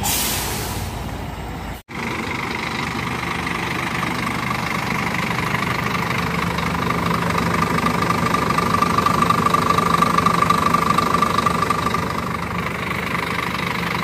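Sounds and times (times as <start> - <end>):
coach diesel engine driving off: 0.0 - 14.0.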